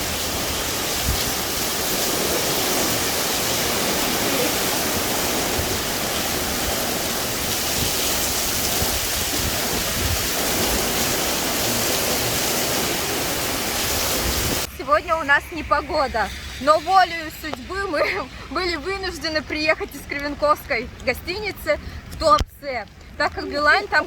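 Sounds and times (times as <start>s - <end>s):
steady rushing outdoor noise: 0.0s - 24.0s.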